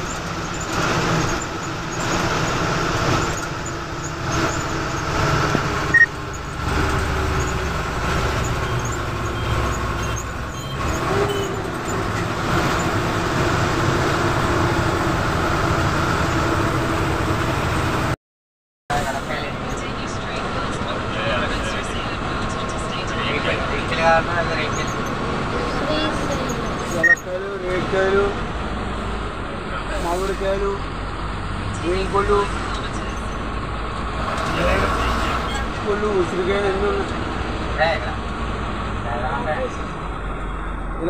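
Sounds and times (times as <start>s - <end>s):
bus engine and tyre rumble: 0.0s - 18.2s, 18.9s - 41.0s.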